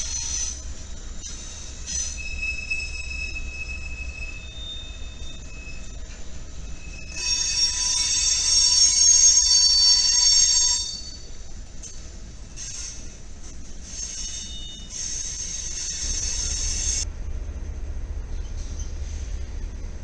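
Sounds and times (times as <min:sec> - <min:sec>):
freight cars rumbling: 0:00.0 - 0:08.7, 0:11.0 - 0:20.0
train wheels squealing: 0:00.0 - 0:17.1, 0:18.3 - 0:19.7.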